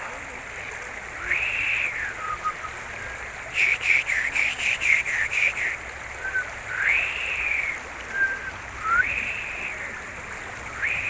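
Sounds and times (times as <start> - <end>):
river water rushing: 0.0 - 11.0
bird whistling: 1.2 - 9.8, 10.7 - 11.0.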